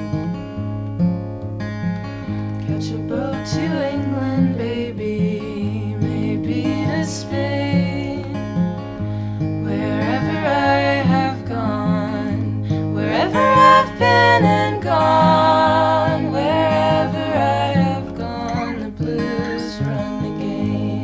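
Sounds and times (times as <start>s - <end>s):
acoustic guitar accompaniment: 0.0s - 21.0s.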